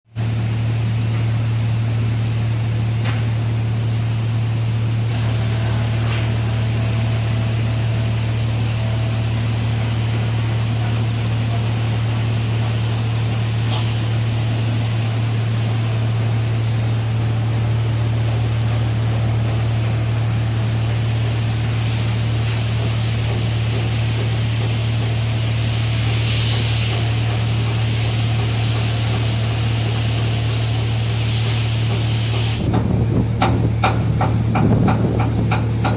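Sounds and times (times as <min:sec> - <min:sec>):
low machinery hum: 0:00.1 - 0:35.9.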